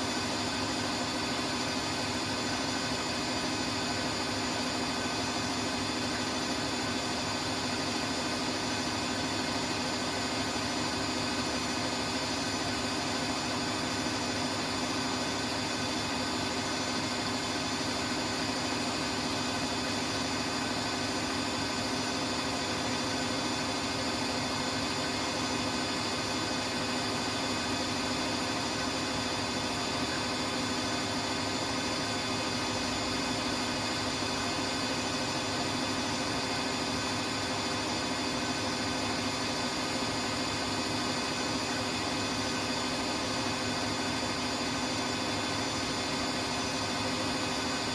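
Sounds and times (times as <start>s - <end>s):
washing machine motor hum: 0.0s - 47.9s.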